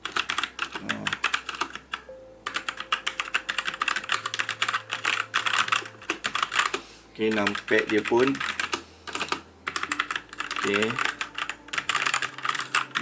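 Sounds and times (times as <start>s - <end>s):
fast typing on mechanical keyboard: 0.0s - 1.9s, 2.5s - 13.0s.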